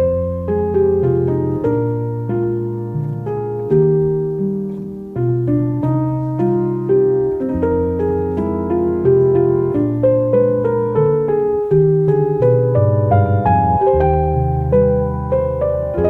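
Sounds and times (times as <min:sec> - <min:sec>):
soft piano melody: 0:00.0 - 0:16.0.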